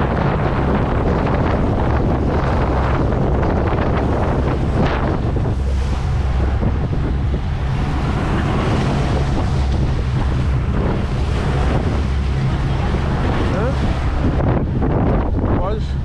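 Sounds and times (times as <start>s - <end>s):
low engine rumble: 0.0s - 16.0s
rushing water: 0.0s - 16.0s
wind buffeting microphone: 0.0s - 16.0s.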